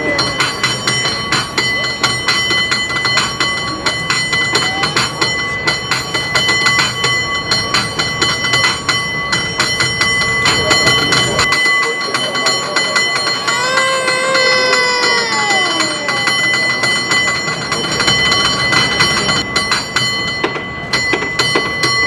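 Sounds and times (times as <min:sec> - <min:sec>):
cable car bell clanging: 0:00.0 - 0:22.0.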